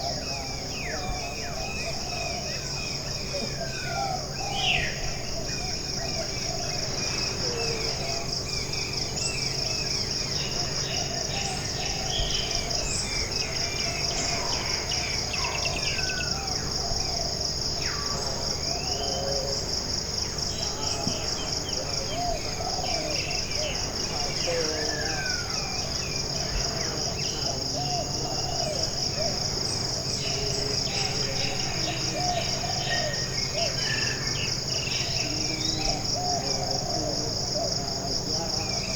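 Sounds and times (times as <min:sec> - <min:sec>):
birds calling and chirping: 0:00.0 - 0:38.9
insect trill: 0:00.0 - 0:38.9.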